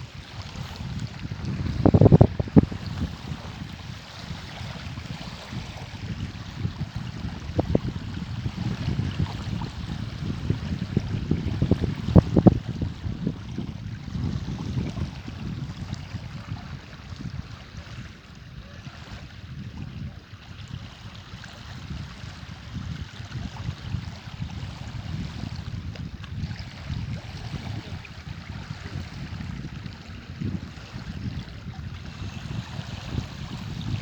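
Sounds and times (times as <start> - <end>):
rushing wind and water: 0.0 - 34.0
wind buffeting microphone: 0.0 - 34.0.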